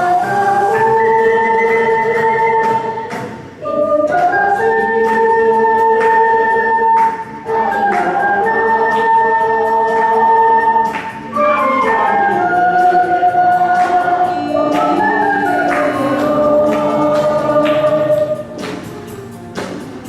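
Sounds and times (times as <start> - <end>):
ocarina ensemble playing: 0.0 - 20.0.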